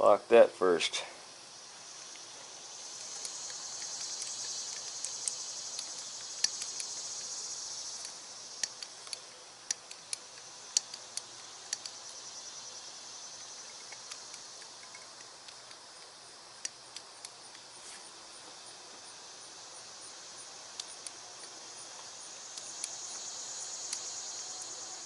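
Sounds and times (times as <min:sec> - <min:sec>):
steady high hiss: 0:00.0 - 0:25.0.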